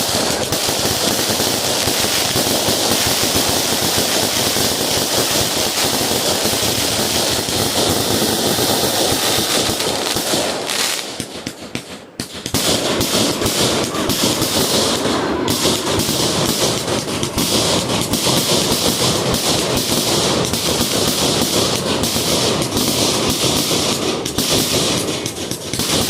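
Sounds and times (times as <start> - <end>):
fireworks crackling: 0.0 - 26.0.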